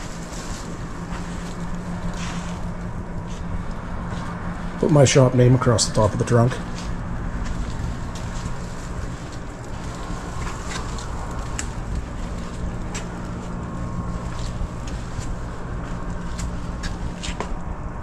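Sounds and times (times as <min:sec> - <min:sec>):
low mechanical hum: 0:00.0 - 0:18.0
rushing noise: 0:00.0 - 0:18.0.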